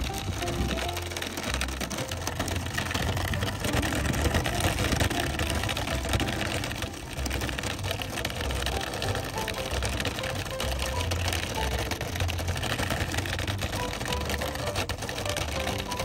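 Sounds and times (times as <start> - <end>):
cart wheels rolling on gravel: 0.0 - 16.0.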